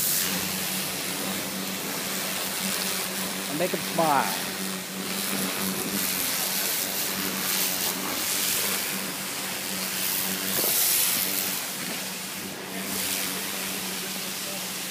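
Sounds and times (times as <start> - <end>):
pressure washer spraying wood: 0.0 - 14.9.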